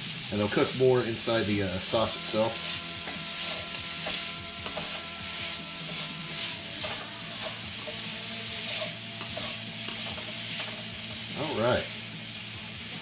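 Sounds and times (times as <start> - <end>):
meat sizzling in hot oil: 0.0 - 13.0
wooden spatula scraping a pan: 0.4 - 11.9.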